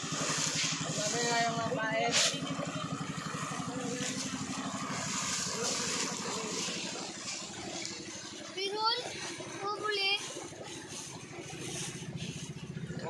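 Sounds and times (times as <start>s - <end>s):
small boat engine putter: 0.0s - 13.0s
faint voices: 0.7s - 13.0s.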